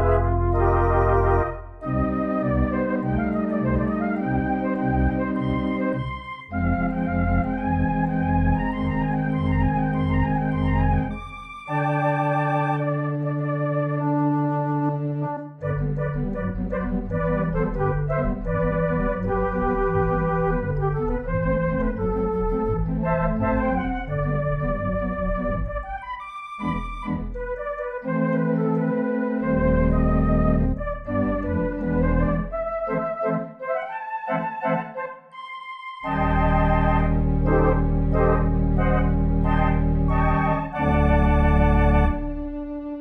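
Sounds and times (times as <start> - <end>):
held low chord with repeating notes: 0.0 - 33.4, 36.0 - 43.0
organ music: 0.0 - 43.0.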